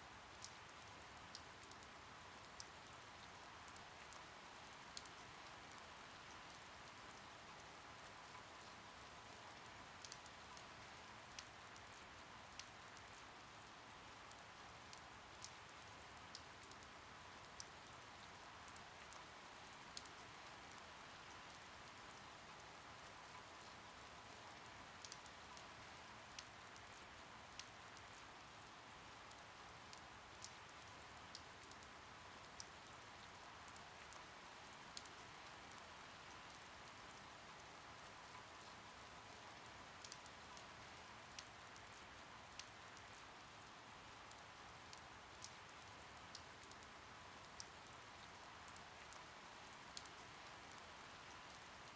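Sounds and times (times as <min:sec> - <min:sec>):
faint steady rain: 0:00.0 - 0:51.9.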